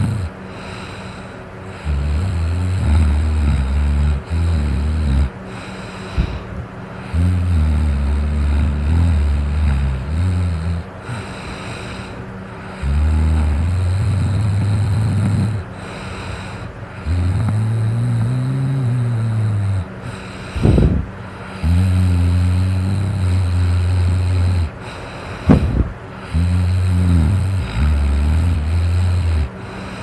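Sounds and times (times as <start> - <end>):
person snoring: 0.0 - 30.0
quiet breaths: 0.0 - 30.0.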